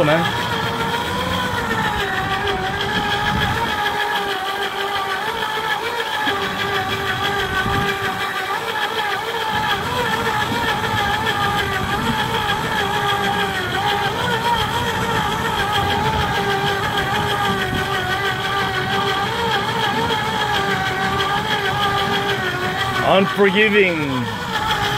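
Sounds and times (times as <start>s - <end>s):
fishing reel motor whining: 0.0s - 24.9s
low rumble of wind and boat: 0.0s - 24.9s.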